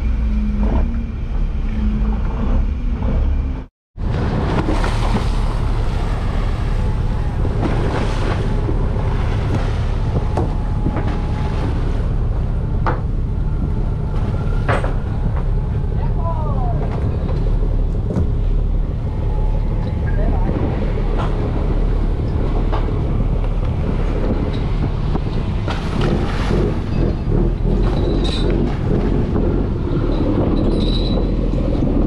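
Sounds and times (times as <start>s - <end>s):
boat engine running: 0.0s - 32.0s
waves rushing: 4.0s - 32.0s
wind buffeting microphone: 4.0s - 32.0s.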